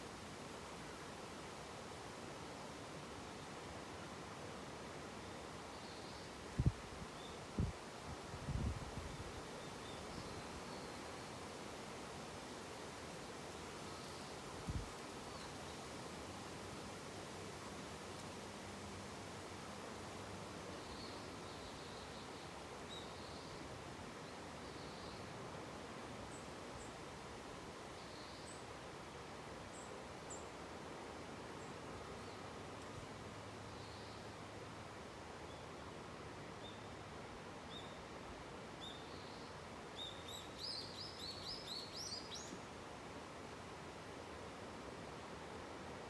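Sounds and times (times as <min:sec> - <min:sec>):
wind: 0:00.0 - 0:46.0.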